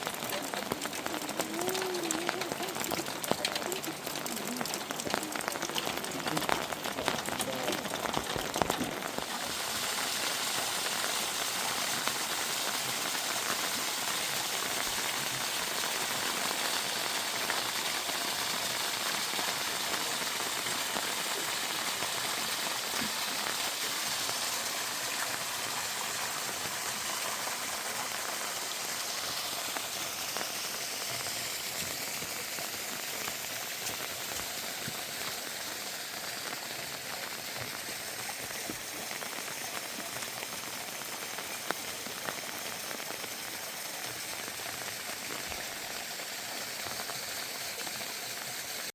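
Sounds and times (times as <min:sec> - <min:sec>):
heavy rain falling: 0:00.0 - 0:46.1.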